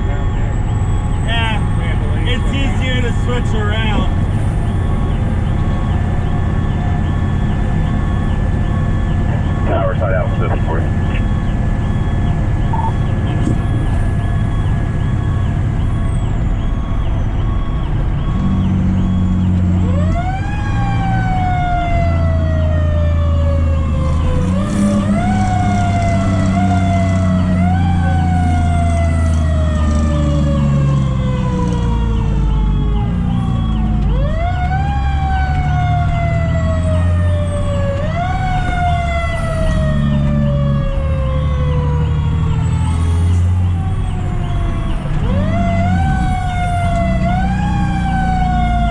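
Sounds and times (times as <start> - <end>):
fast electronic siren: 0.0 - 48.9
truck engine rumble: 0.0 - 48.9
wailing siren winding up and down: 0.0 - 48.9.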